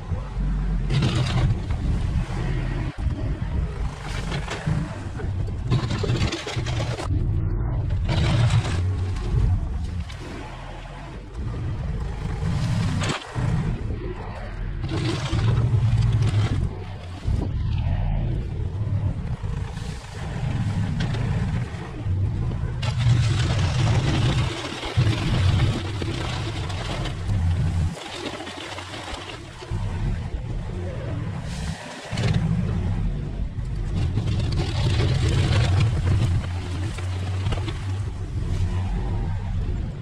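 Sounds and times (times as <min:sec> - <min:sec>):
earth-moving machine engine: 0:00.0 - 0:40.0.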